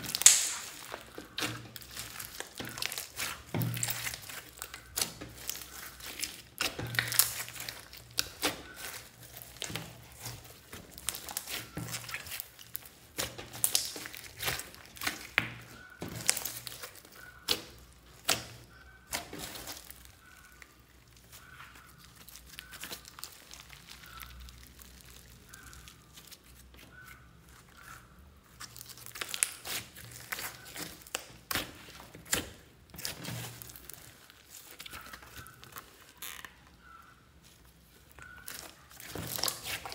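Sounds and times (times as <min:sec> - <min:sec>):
slime squelching and popping: 0:00.0 - 0:36.8, 0:37.4 - 0:39.9.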